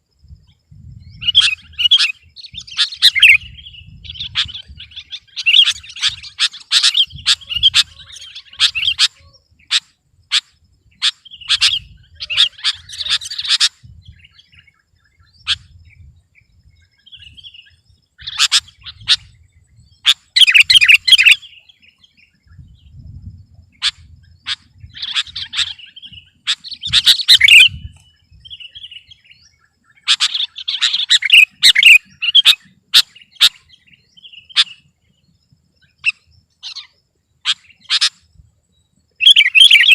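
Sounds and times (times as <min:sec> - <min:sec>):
bulbul chirping song: 0:00.2 - 0:39.9.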